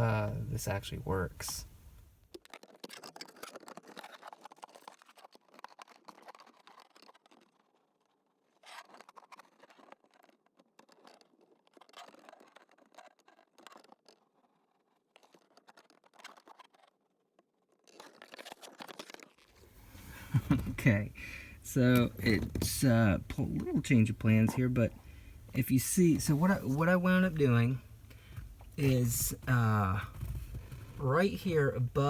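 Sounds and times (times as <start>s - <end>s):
faint scratching and clicking: 0.0s - 32.0s.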